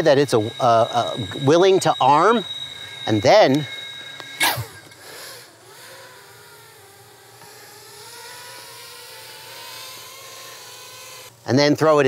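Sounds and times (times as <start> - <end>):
drone motors whirring at idle: 0.0 - 11.5.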